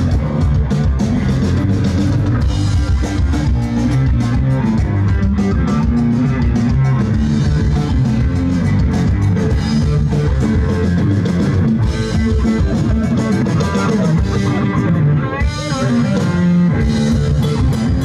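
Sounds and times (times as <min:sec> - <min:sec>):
loud rock music: 0:00.0 - 0:18.0.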